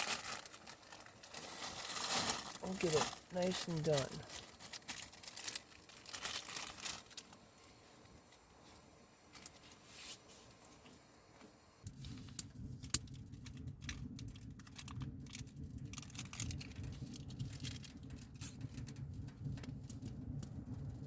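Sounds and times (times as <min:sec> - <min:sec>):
pot simmering: 0:00.0 - 0:21.0.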